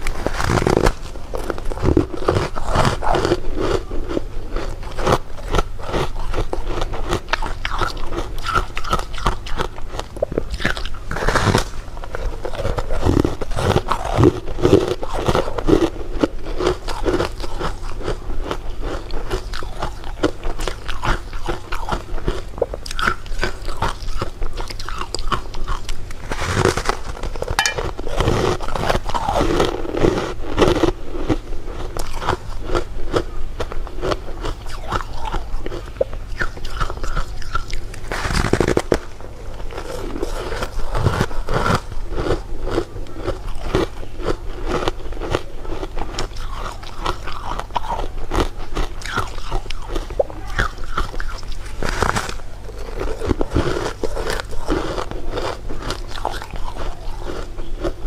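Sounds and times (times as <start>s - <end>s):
crunching bites and chewing: 0.0s - 58.0s.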